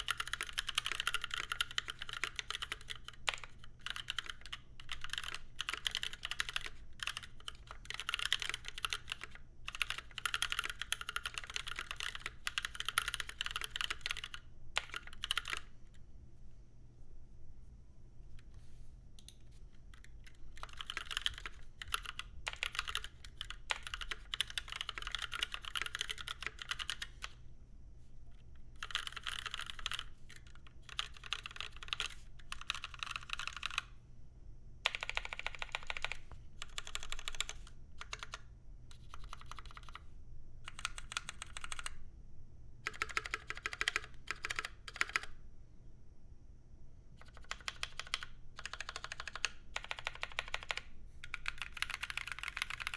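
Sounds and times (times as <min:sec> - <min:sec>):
mechanical keyboard typing: 0:00.0 - 0:15.7, 0:19.9 - 0:27.4, 0:28.8 - 0:33.9, 0:34.8 - 0:40.1, 0:40.7 - 0:42.0, 0:42.8 - 0:45.4, 0:47.2 - 0:52.9.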